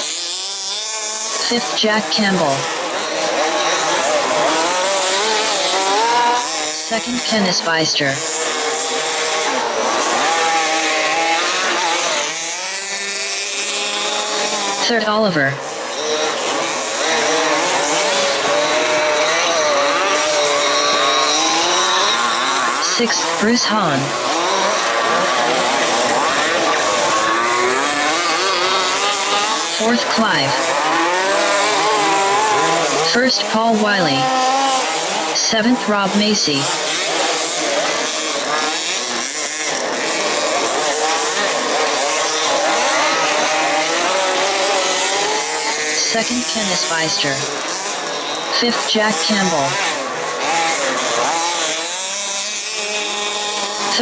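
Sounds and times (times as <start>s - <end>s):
small two-stroke engines buzzing: 0.0s - 54.0s.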